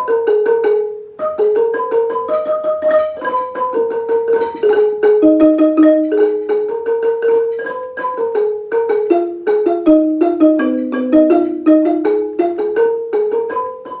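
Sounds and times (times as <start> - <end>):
xylophone fast melody: 0.0 - 14.0.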